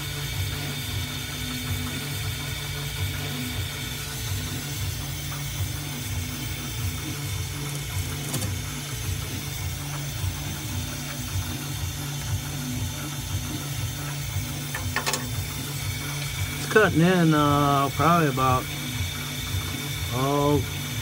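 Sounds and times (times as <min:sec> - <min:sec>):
milling machine humming: 0:00.0 - 0:21.0.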